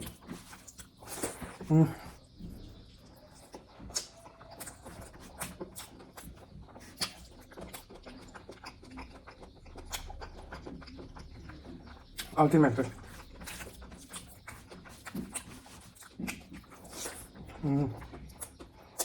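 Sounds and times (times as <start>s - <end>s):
chewing and lip-smacking: 0.0s - 19.0s.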